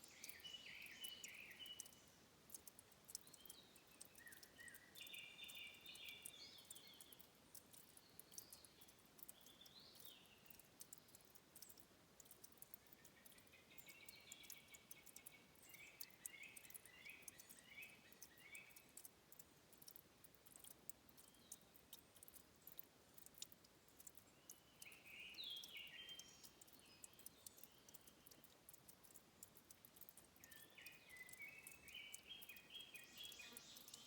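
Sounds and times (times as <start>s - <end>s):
sharp high ticks: 0.0s - 34.0s.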